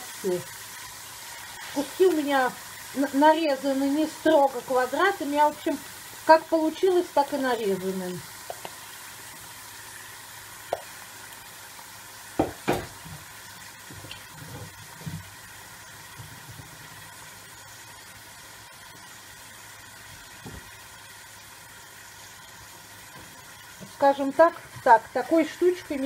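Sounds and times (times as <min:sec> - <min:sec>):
meat sizzling in fat: 0:00.0 - 0:26.0.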